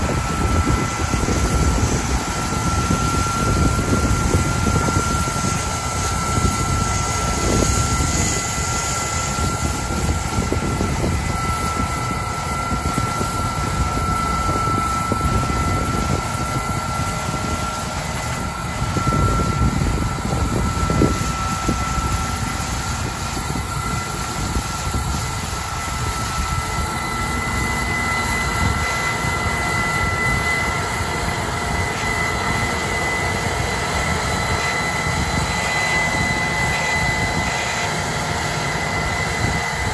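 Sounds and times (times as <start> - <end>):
constant high whine: 0.0 - 39.9.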